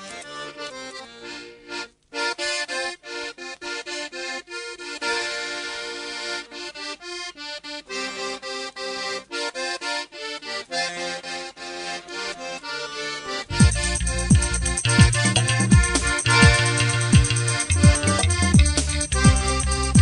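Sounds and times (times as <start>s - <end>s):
accordion playing chords and runs: 0.0s - 20.0s.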